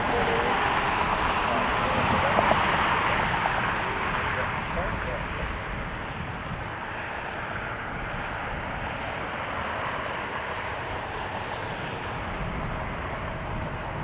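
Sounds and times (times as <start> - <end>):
jet engine rushing: 0.0 - 14.0
wind rumble on microphone: 0.0 - 14.0.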